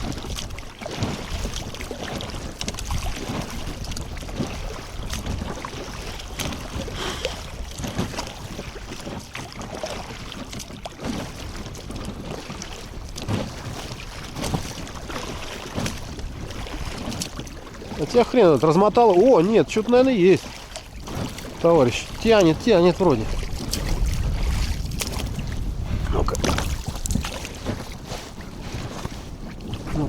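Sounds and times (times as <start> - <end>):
wind buffeting microphone: 0.0 - 10.4, 11.2 - 30.0
water sloshing against boat: 0.0 - 30.0.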